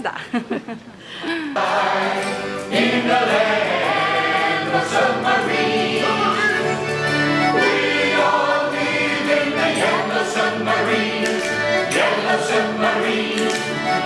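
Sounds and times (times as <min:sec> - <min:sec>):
accordion: 0:01.6 - 0:14.0
chorus singing together: 0:01.6 - 0:14.0.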